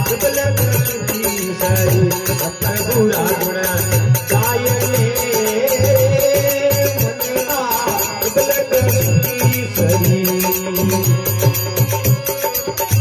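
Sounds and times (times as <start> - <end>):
hand drum rhythm: 0.0 - 13.0
harmonium melody: 0.0 - 13.0
jingling percussion: 0.0 - 13.0.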